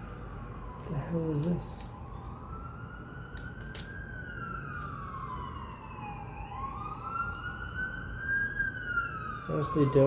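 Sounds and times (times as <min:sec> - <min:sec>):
emergency vehicle siren wailing: 0:00.0 - 0:10.0.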